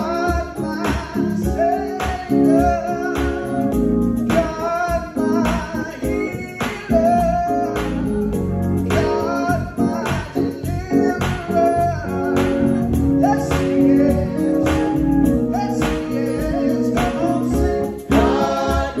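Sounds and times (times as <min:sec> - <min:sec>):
keyboard: 0:00.0 - 0:19.0
man singing gospel: 0:00.0 - 0:19.0
organ: 0:00.0 - 0:19.0.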